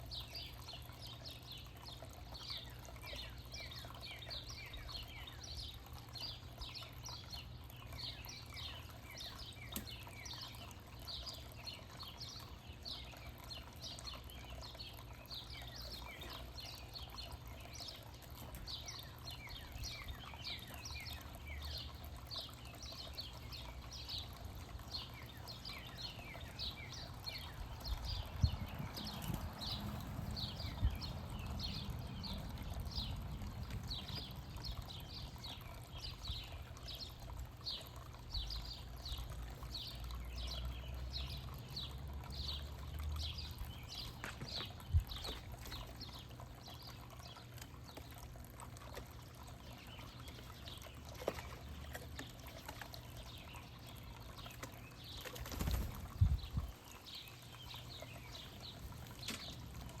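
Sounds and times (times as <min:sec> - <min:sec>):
songbird singing: 0:00.0 - 1:00.0.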